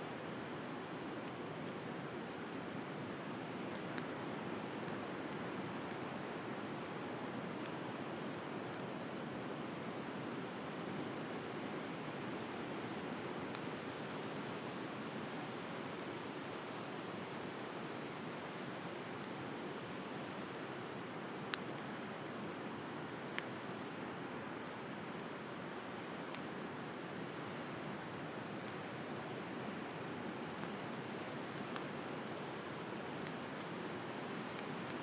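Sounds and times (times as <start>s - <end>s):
bonfire crackling and popping: 0.2s - 9.6s, 10.5s - 35.0s.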